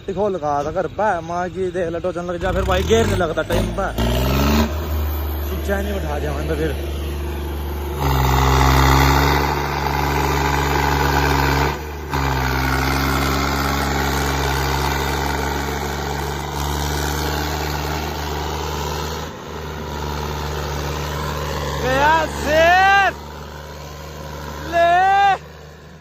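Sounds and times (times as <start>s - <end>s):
tractor diesel engine running hard: 0.0s - 26.0s.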